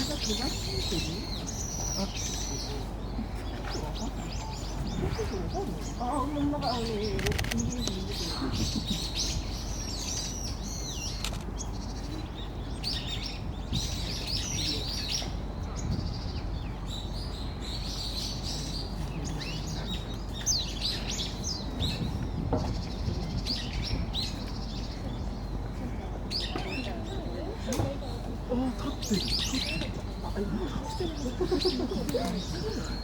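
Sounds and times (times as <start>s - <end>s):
low background hum: 0.0s - 33.0s
small birds chirping: 0.0s - 33.0s.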